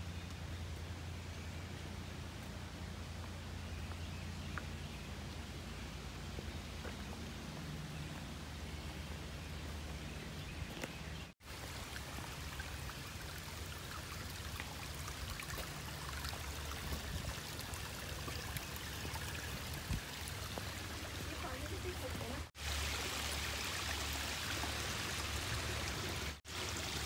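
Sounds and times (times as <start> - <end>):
rocky creek trickling and splashing: 0.2 - 27.0.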